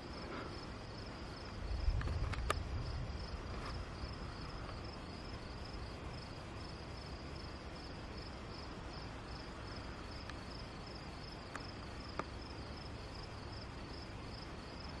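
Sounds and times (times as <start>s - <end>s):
crickets chirping: 0.0s - 15.0s
faint background hiss: 0.0s - 15.0s.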